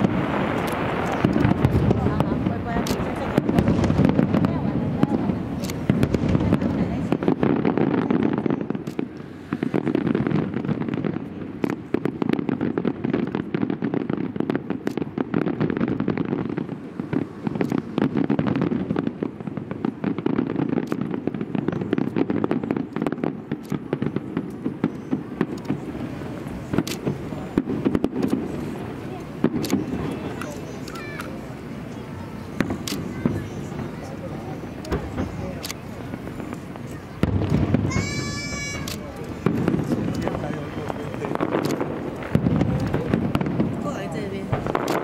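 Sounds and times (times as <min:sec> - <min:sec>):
fireworks pops and crackles: 0:00.0 - 0:45.0.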